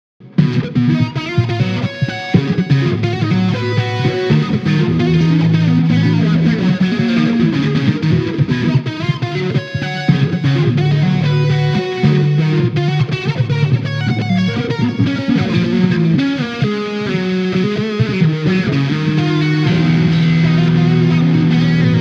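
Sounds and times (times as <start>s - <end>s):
electric guitar with auto-wah: 0.2s - 22.0s.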